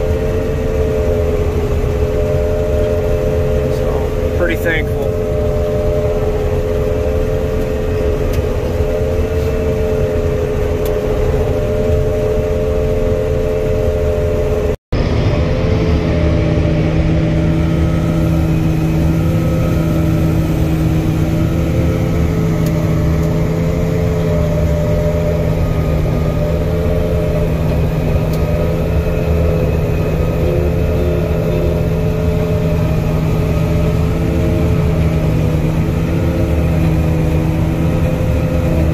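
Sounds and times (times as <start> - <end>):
combine harvester running: 0.0 - 38.9
machine whining tones: 0.0 - 38.9.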